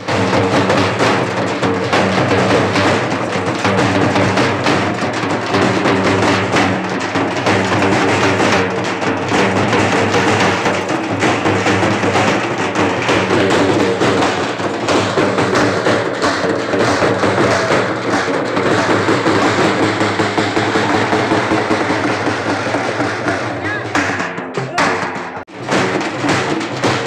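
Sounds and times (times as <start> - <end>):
frame drums beaten with sticks: 0.0 - 27.0.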